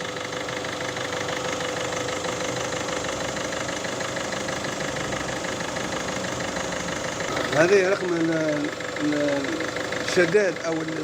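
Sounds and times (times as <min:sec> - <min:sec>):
diesel engine idling with ticking: 0:00.0 - 0:11.0.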